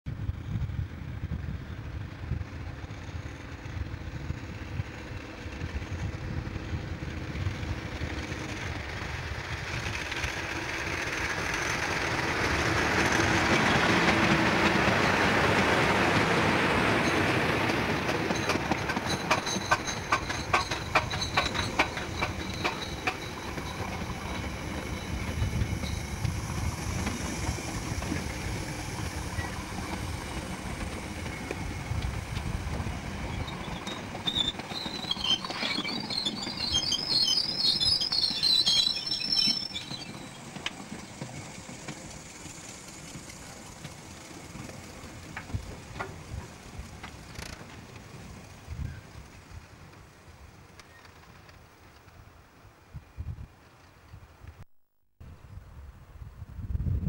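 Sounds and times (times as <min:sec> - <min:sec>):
diesel locomotive passing: 0:00.1 - 0:52.9
train wheels clickety-clack: 0:01.8 - 0:52.3.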